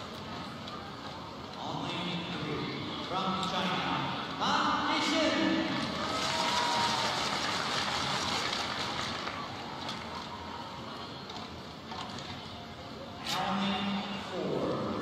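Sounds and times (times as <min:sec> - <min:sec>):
arena crowd noise: 0:00.0 - 0:15.0.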